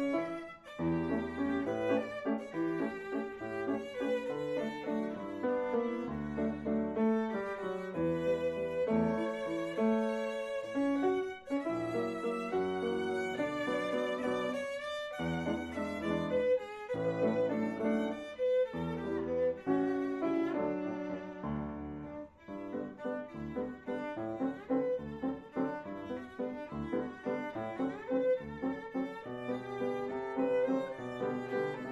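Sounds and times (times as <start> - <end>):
piano chords: 0.0 - 31.9
violin melody with vibrato: 0.0 - 31.9.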